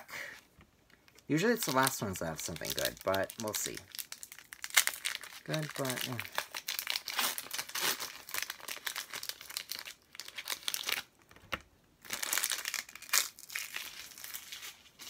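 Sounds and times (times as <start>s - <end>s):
foil wrapper tearing and crinkling: 1.6s - 11.2s, 12.0s - 15.0s.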